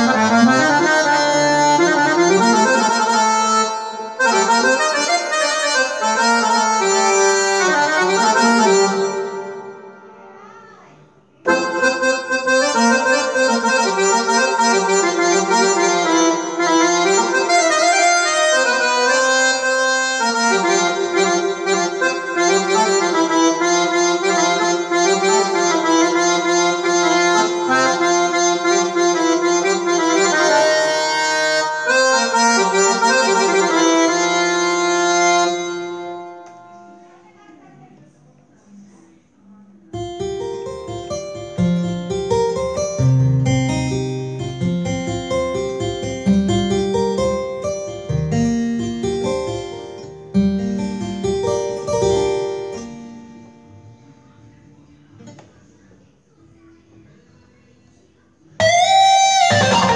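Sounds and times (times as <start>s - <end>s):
keytar playing reedy melody: 0.0s - 9.8s, 11.5s - 36.6s, 40.0s - 53.7s, 58.6s - 59.9s.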